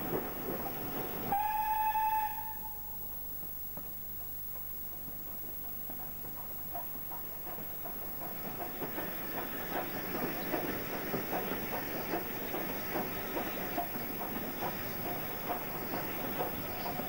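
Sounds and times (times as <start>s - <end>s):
train wheels clattering over rails: 0.0s - 1.4s, 2.4s - 17.0s.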